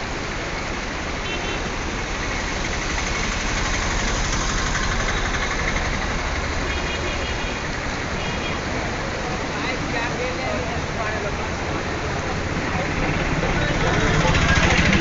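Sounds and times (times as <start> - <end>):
flooded river rushing: 0.0 - 15.0.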